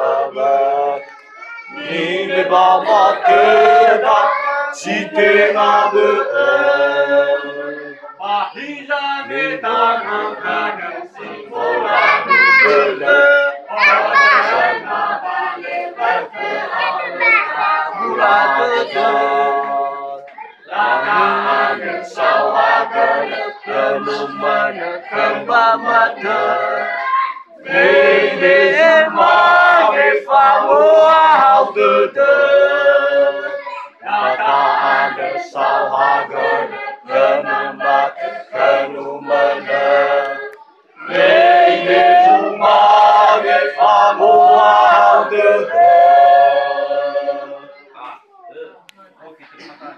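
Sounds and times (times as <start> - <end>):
song leader singing: 0.0 - 1.1, 1.7 - 47.8
group singing unaccompanied: 0.0 - 48.1.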